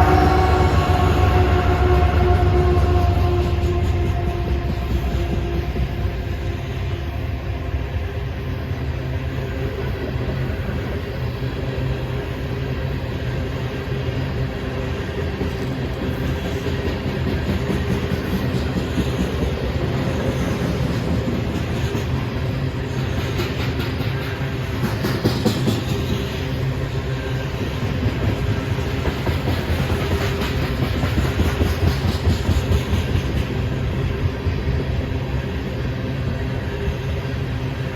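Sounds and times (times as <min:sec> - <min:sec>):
freight train rumbling: 0:00.0 - 0:37.9.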